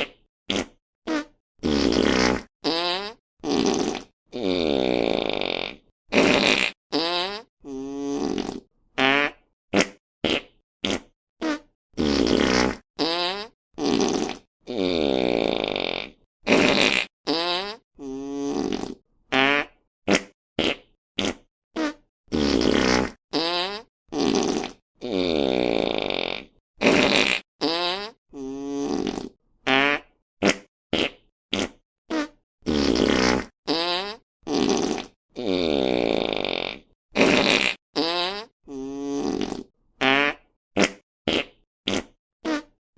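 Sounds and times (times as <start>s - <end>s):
fart sound effects: 0.0s - 42.8s.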